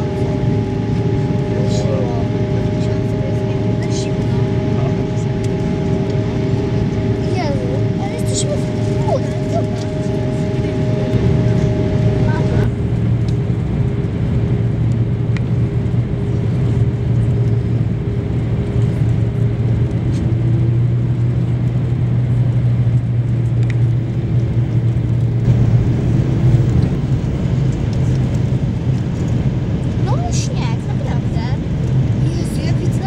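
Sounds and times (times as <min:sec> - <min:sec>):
airplane cabin engine drone: 0:00.0 - 0:33.0.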